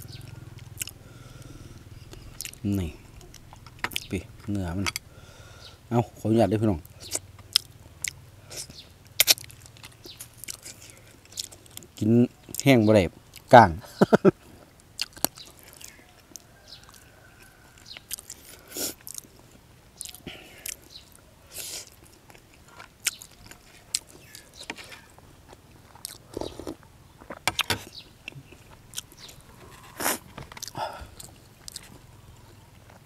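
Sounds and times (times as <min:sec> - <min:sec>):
person chewing fish: 0:00.0 - 0:05.1, 0:06.9 - 0:12.7, 0:14.4 - 0:33.0.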